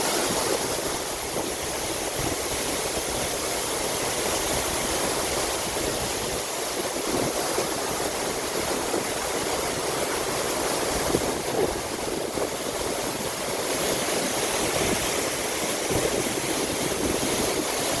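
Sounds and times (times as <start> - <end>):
waterfall pouring: 0.0 - 18.0.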